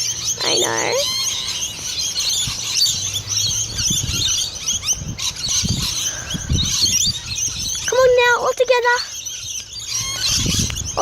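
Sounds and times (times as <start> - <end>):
lorikeets calling: 0.0 - 11.0.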